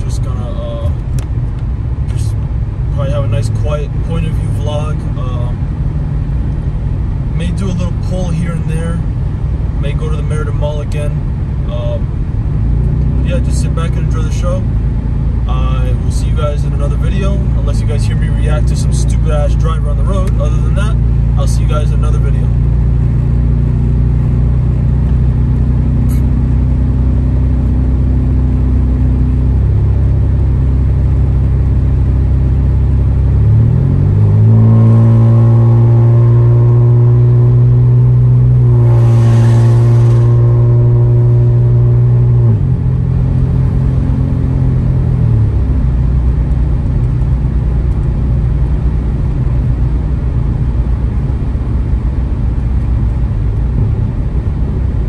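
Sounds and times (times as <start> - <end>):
car exhaust droning: 0.0 - 55.0.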